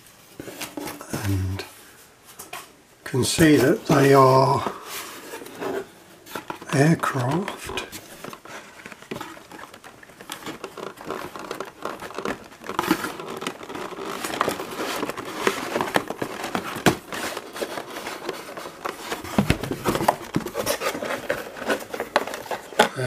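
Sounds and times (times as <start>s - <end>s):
plastic packs crinkling and scraping: 0.0s - 23.0s.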